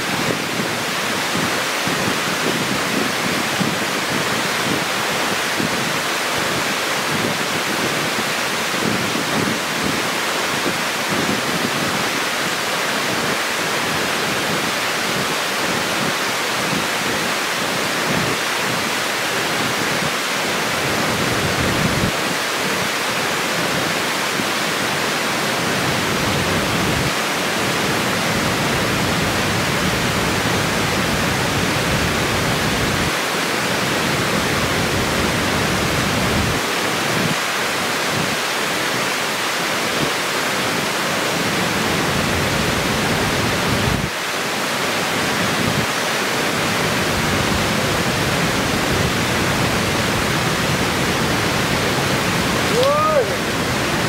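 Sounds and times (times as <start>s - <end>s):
water rushing over weir and rocks: 0.0s - 54.0s.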